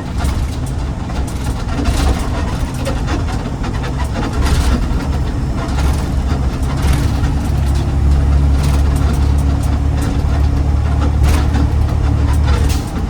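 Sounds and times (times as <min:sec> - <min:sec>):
truck engine humming: 0:00.0 - 0:13.0
loose rattling and clicking: 0:00.2 - 0:13.0.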